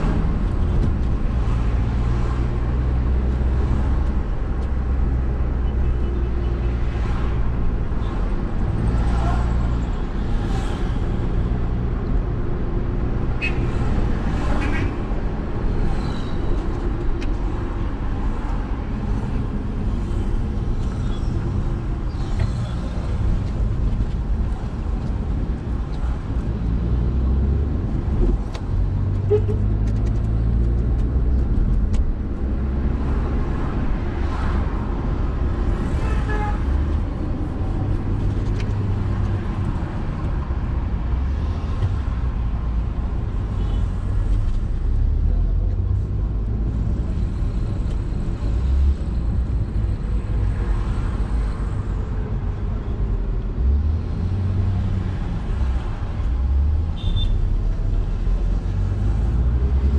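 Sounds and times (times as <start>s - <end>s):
car engine and road hum: 0.0s - 59.9s.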